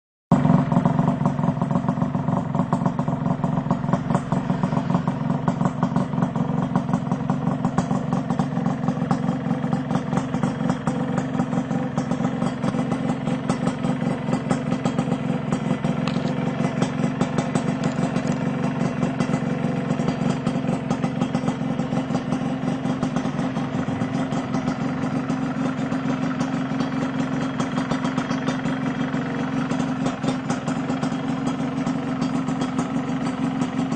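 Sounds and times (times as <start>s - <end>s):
motorcycle engine idling: 0.3s - 33.9s.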